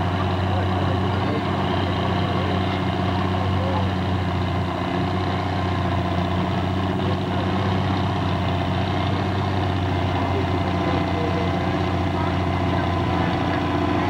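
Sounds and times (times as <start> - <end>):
tractor engines idling: 0.0 - 14.0.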